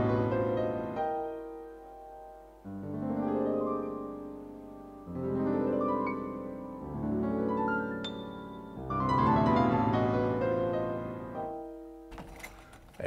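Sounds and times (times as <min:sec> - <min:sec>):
slow piano chords: 0:00.0 - 0:12.1.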